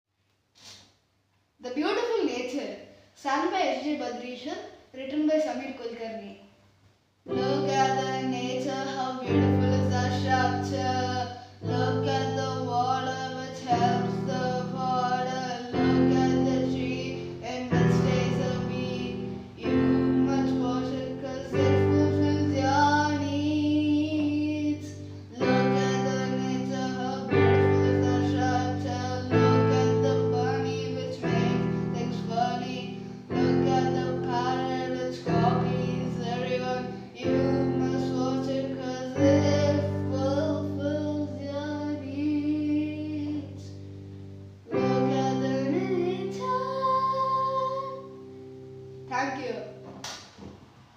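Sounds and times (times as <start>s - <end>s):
person singing: 7.3s - 48.6s.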